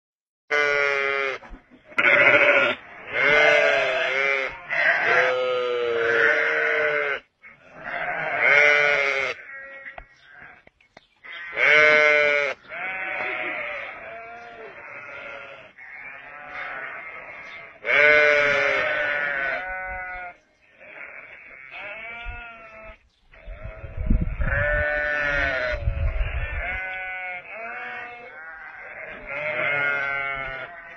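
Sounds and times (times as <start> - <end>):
sheep bleating: 0.5 - 30.9.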